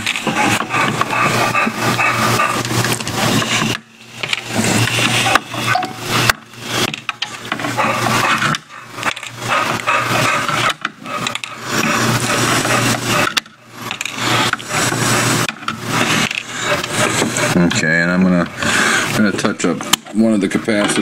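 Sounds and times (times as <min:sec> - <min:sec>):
hand scraping circuit board: 0:00.0 - 0:21.0.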